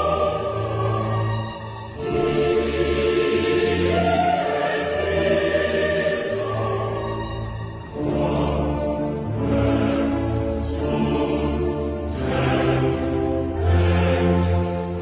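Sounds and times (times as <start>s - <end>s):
choir singing held chords: 0.0s - 15.0s
low orchestral bass: 0.0s - 15.0s.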